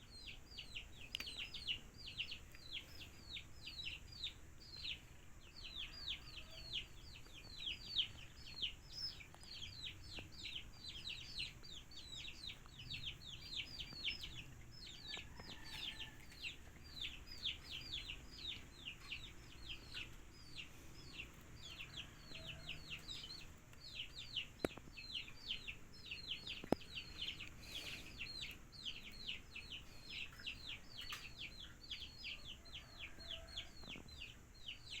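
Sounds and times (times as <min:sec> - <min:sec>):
bird peeping: 0:00.0 - 0:35.0.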